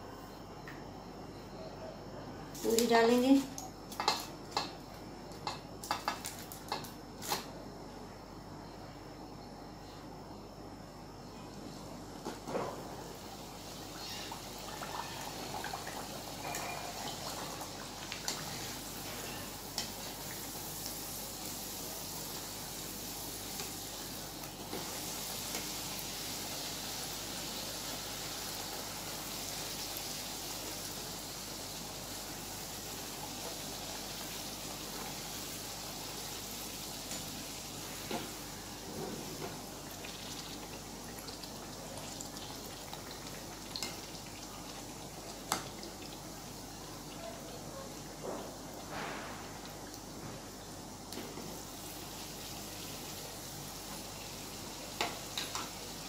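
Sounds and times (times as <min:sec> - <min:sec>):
bread deep-frying in oil: 0:02.6 - 0:07.6, 0:11.7 - 0:56.0.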